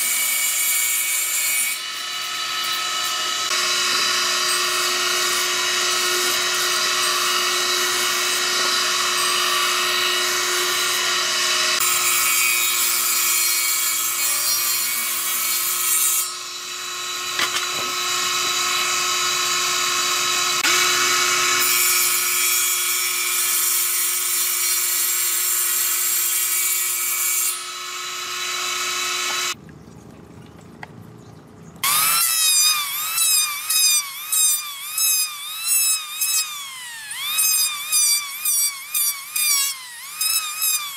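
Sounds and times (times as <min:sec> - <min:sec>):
woodworking machine cutting boards: 0:00.0 - 0:29.6, 0:31.8 - 0:40.9
electric planer passes: 0:01.8 - 0:13.1, 0:16.2 - 0:29.6, 0:31.8 - 0:40.9.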